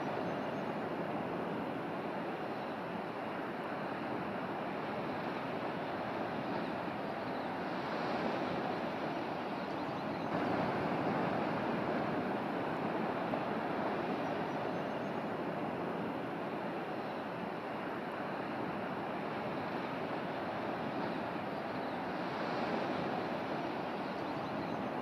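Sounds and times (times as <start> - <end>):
surf: 0.0 - 25.0
wind: 0.0 - 25.0.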